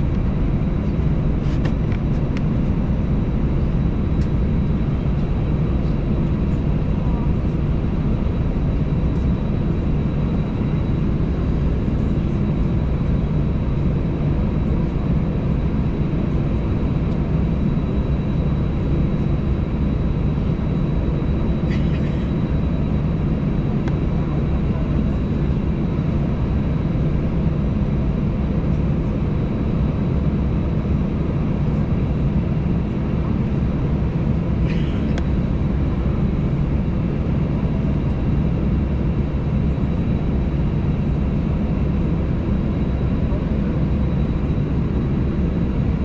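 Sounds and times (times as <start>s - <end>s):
jet engines at low thrust: 0.0s - 46.0s.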